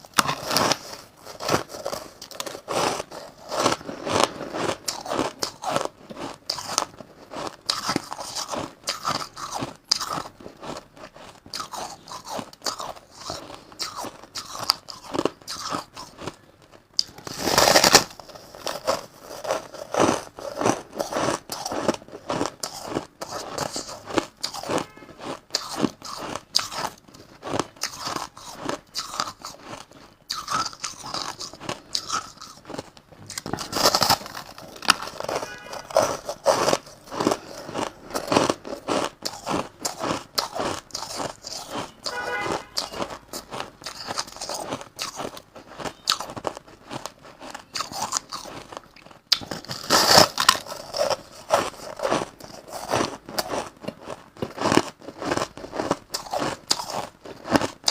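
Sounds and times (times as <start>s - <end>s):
crushed ice being chewed: 0.0s - 57.9s.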